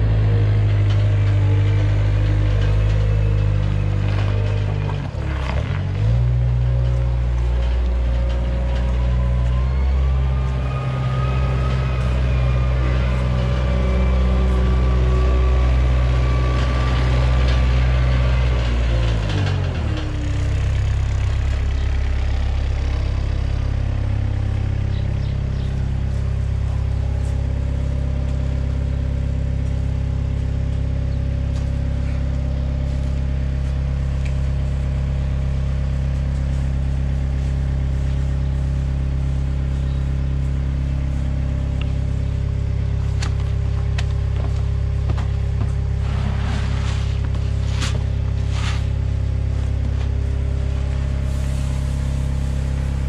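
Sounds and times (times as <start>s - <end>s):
diesel engine running and idling: 0.0s - 53.0s
drive whine: 0.0s - 53.0s.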